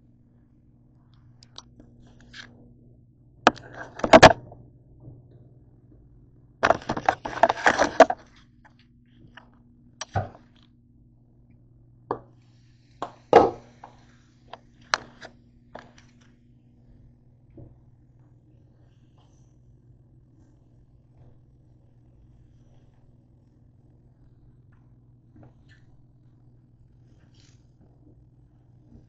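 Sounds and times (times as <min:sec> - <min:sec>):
faint steady low hum: 0:00.0 - 0:29.0.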